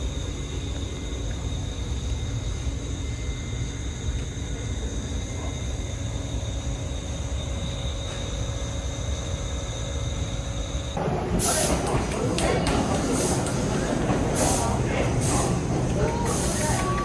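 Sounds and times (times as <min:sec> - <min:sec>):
constant electrical hum: 0:00.0 - 0:17.0.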